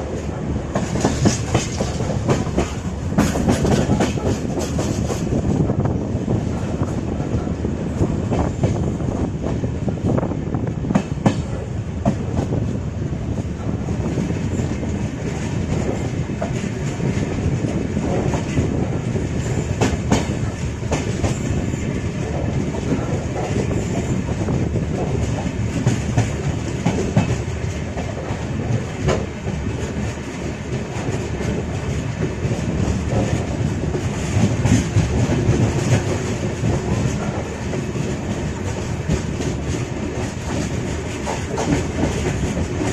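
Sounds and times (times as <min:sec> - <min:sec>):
train rumble: 0:00.0 - 0:42.9.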